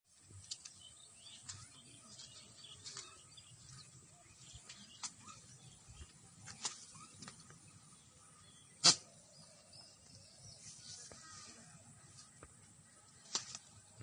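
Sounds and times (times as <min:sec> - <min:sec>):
faint birds chirping: 0:00.1 - 0:14.0.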